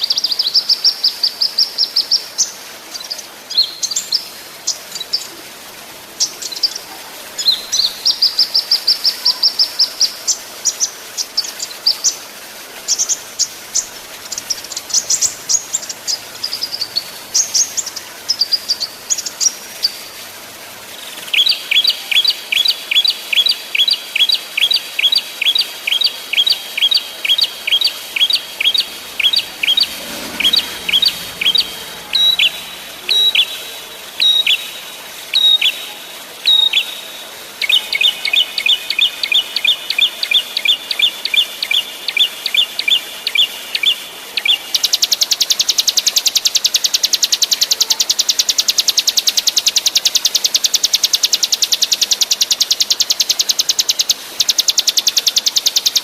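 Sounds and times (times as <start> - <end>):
small songbirds calling: 0.0 - 56.0.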